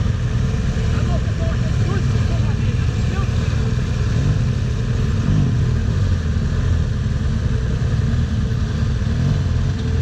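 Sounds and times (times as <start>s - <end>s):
motorcycle engine revving: 0.0s - 10.0s
steady rumble of noise: 0.0s - 10.0s.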